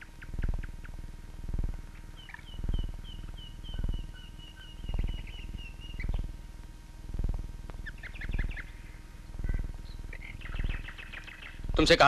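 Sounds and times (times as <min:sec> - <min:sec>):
bird trill: 0:00.0 - 0:01.0, 0:01.9 - 0:06.4, 0:07.8 - 0:12.0
birds chirping: 0:00.0 - 0:12.0
low rattling pulse: 0:00.0 - 0:12.0.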